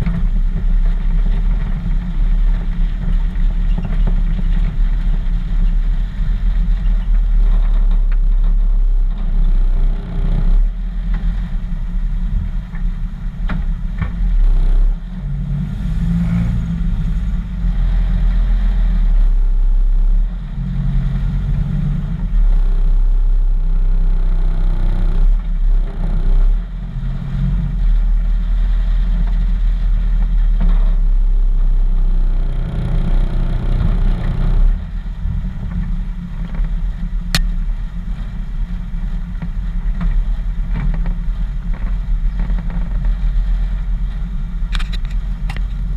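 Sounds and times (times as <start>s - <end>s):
truck engine running: 0.0s - 45.9s
wind rumble on microphone: 0.0s - 45.9s.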